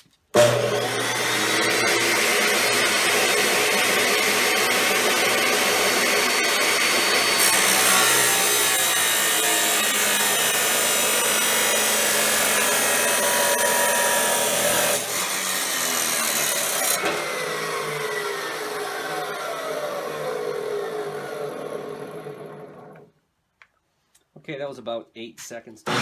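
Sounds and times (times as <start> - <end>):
chop saw cutting steel: 0.4 - 22.6
saw blade winding down whine: 0.4 - 23.0.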